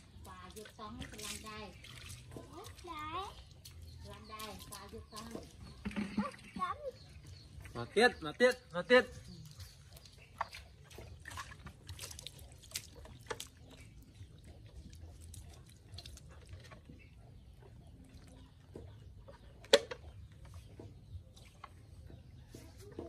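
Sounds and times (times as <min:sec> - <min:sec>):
scraping and splashing: 0:00.0 - 0:23.0.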